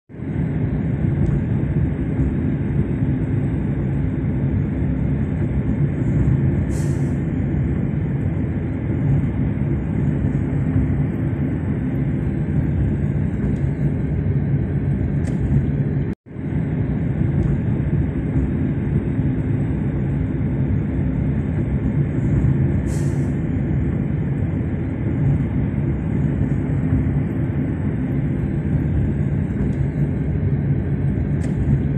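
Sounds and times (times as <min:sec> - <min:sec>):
car cabin road rumble: 0:00.1 - 0:31.9.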